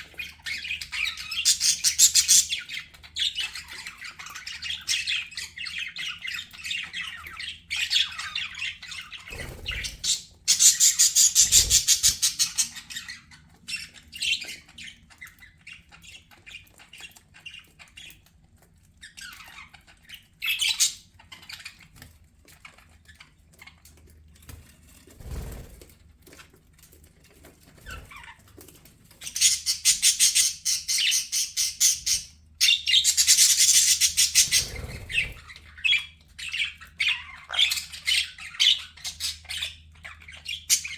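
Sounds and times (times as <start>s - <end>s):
budgerigars chattering and squawking: 0.0s - 23.9s, 29.1s - 40.9s.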